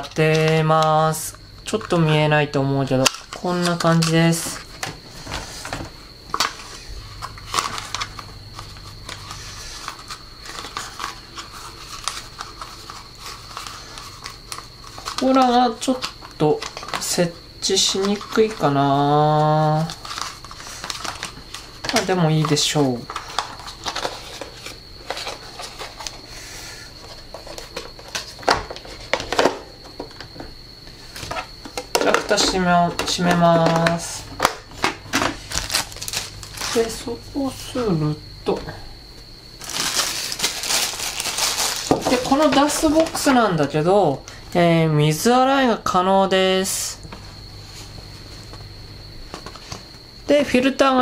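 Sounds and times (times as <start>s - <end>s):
faint high whine: 0.0s - 51.0s.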